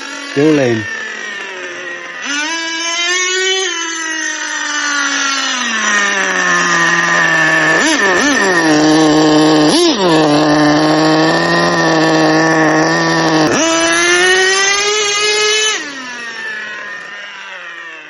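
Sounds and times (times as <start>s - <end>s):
model truck engine idling and revving: 0.0s - 18.0s.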